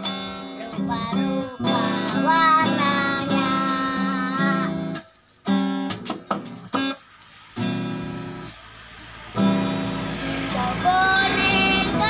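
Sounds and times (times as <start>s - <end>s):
acoustic guitar chords strummed: 0.0s - 12.0s.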